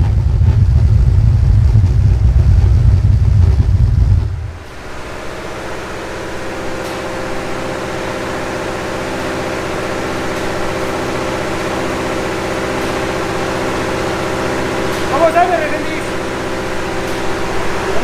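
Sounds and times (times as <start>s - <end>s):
engine humming drone: 0.0s - 18.0s.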